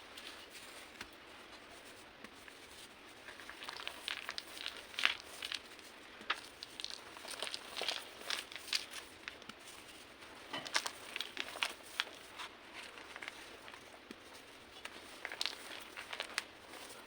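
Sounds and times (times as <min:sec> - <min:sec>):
chalk crunching and cracking: 0:00.0 - 0:17.0.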